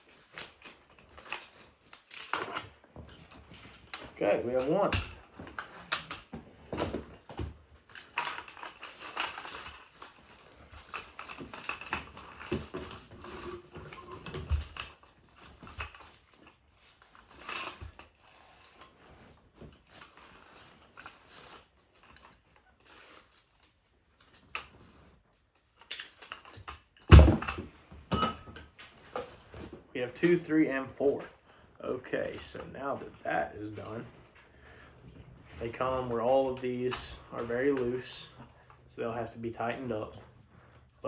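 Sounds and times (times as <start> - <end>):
rustling and handling noises: 0.0 - 41.0.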